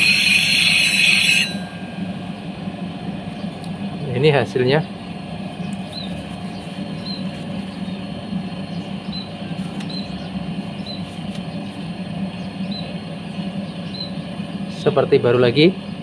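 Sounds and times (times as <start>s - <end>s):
sharpening machine humming: 0.0s - 14.6s.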